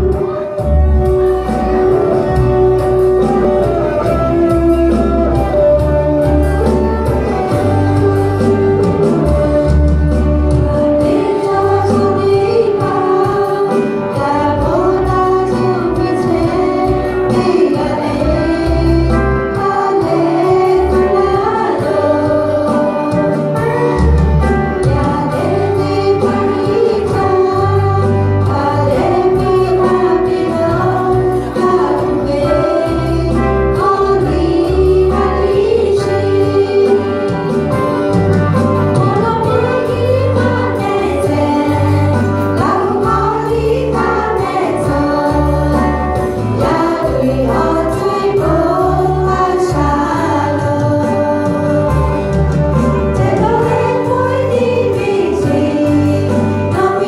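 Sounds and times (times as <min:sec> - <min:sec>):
instrumental accompaniment with bass: 0:00.0 - 0:57.0
women's choir singing: 0:01.2 - 0:37.7, 0:39.0 - 0:52.3, 0:53.0 - 0:57.0.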